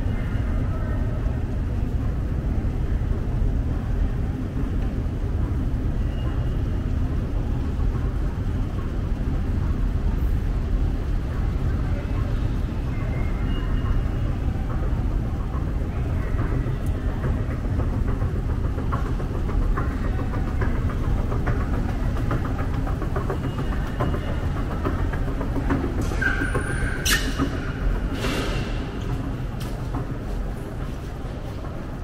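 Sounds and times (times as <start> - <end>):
escalator low rumble: 0.0 - 32.0.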